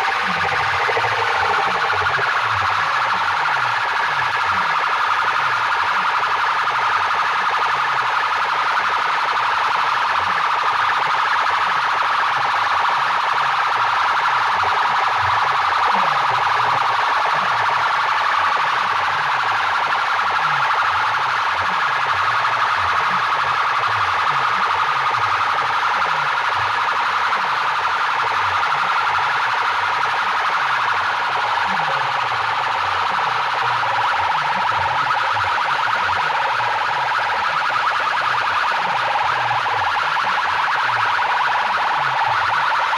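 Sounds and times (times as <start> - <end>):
distorted electronic siren wail: 0.0 - 42.9.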